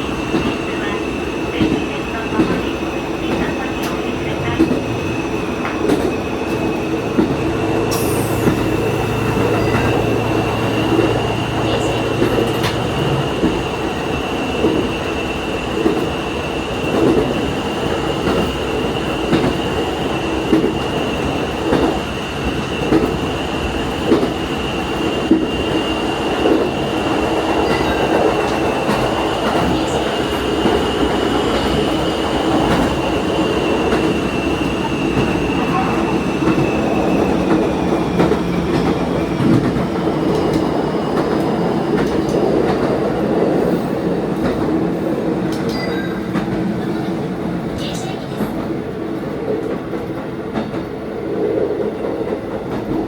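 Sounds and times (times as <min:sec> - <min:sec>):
railcar rumble: 0:00.0 - 0:53.0.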